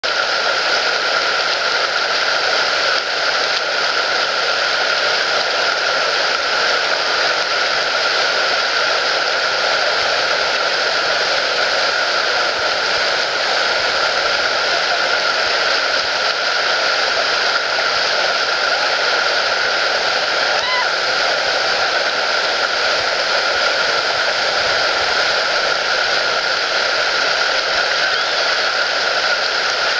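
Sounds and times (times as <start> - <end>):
river rapids rushing: 0.1 - 29.9.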